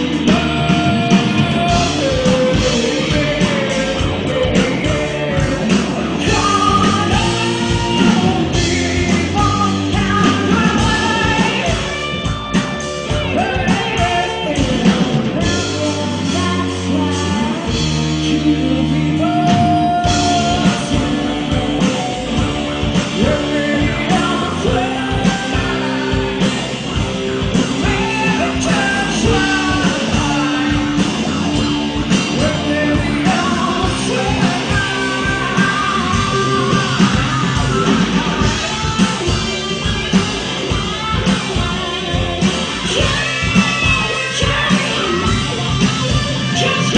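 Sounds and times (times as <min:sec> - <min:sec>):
bass guitar: 0:00.0 - 0:46.9
drum kit beat: 0:00.0 - 0:46.9
electric guitar: 0:00.0 - 0:46.9.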